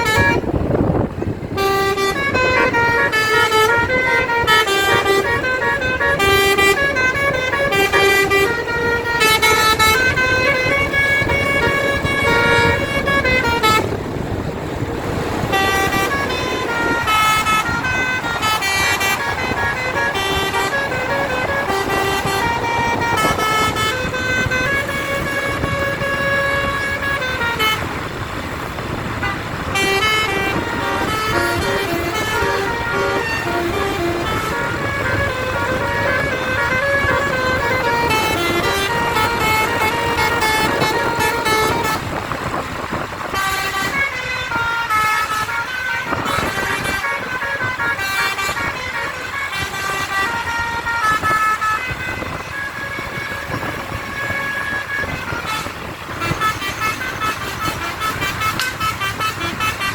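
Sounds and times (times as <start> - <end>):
bus engines rumbling: 0.0 - 59.9
bus horns playing tunes: 0.0 - 59.9.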